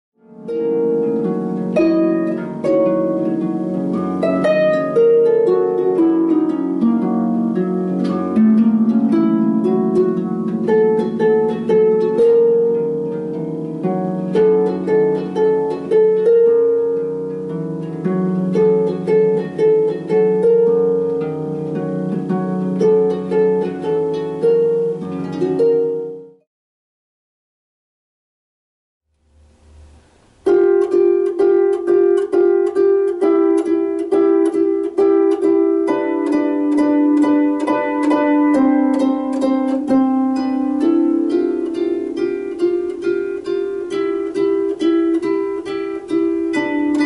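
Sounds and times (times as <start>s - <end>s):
harp playing plucked melody: 0.2s - 26.4s, 29.2s - 47.0s.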